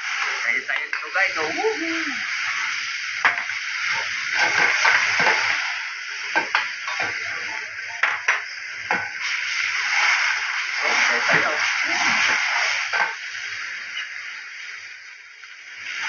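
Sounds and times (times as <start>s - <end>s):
chicken sizzling in a wok: 0.0s - 16.0s.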